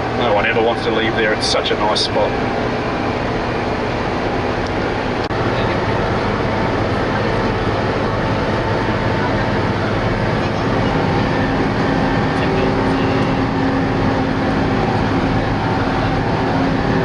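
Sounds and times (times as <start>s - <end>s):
bus engine hum: 0.0s - 17.0s
road noise drone: 0.0s - 17.0s.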